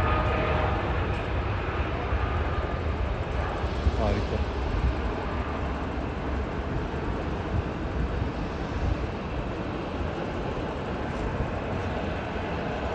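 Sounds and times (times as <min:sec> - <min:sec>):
jet engines rumbling: 0:00.0 - 0:12.9.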